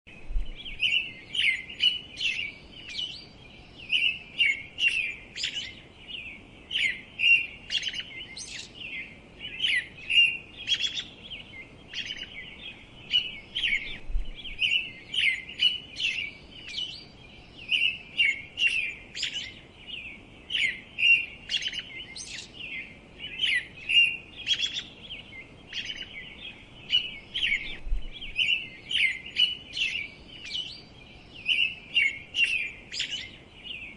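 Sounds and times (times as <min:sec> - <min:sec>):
small bird chirping: 0:00.1 - 0:33.9.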